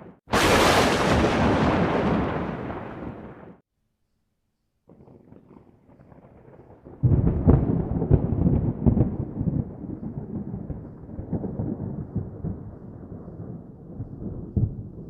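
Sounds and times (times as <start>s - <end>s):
thunder clap and rumble: 0.0s - 3.6s, 5.2s - 15.0s.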